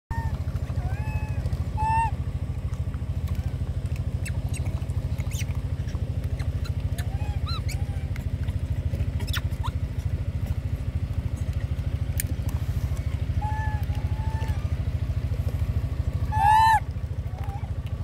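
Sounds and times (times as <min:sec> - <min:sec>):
macaques calling: 0:00.1 - 0:02.3, 0:03.2 - 0:17.8
engine idling: 0:00.1 - 0:18.0.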